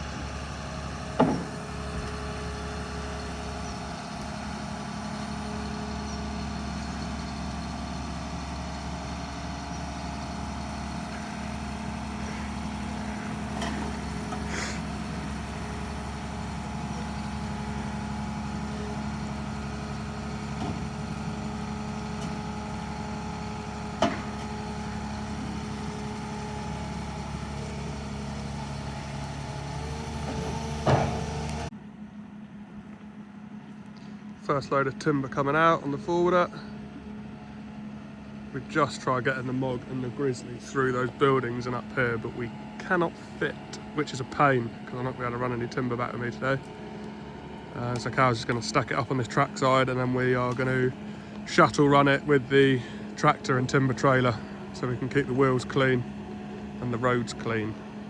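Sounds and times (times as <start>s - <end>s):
heavy vehicle engine running: 0.0s - 58.0s.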